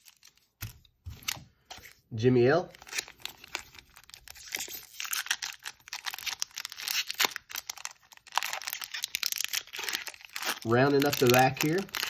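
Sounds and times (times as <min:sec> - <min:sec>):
foil wrapper crinkling and tearing: 0:00.0 - 0:01.4, 0:02.7 - 0:12.0.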